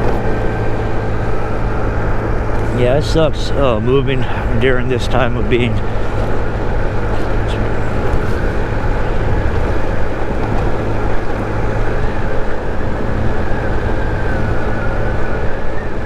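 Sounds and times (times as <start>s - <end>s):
scooter engine running: 0.0s - 16.0s
wind buffeting microphone: 0.0s - 16.0s.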